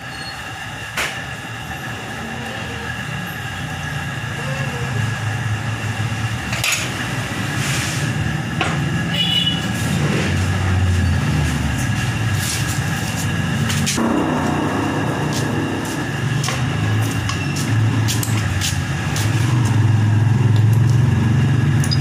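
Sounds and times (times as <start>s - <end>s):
engine rumbling: 1.3s - 22.0s.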